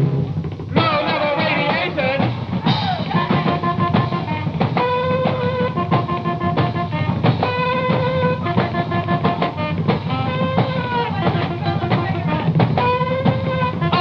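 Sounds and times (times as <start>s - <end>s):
buzzy held melody notes: 0.0s - 14.0s
fast drum beat: 0.0s - 14.0s.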